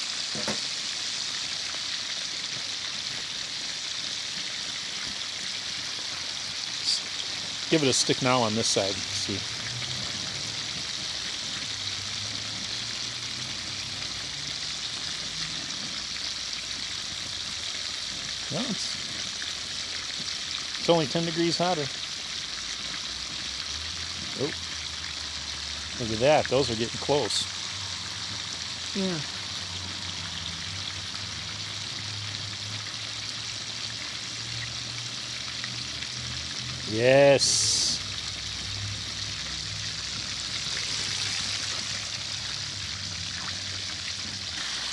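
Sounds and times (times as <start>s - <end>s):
chicken sizzling in hot oil: 0.0s - 44.9s.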